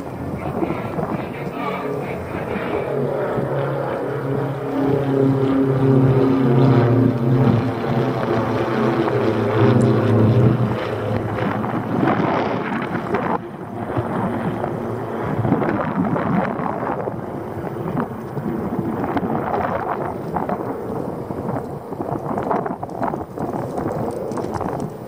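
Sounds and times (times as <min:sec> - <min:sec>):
propeller aircraft droning overhead: 0:00.0 - 0:25.0
wind buffeting microphone: 0:00.0 - 0:25.0.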